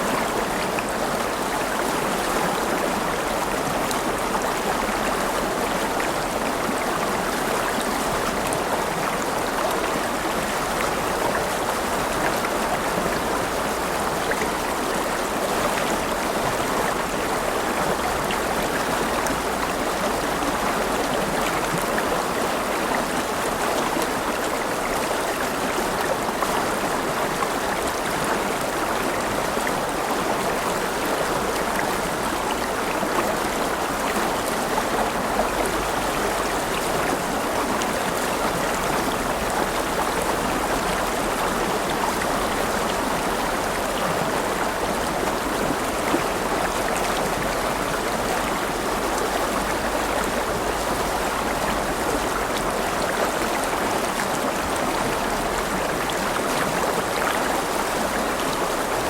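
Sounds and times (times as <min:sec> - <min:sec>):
river water babbling over stones: 0:00.0 - 0:59.0.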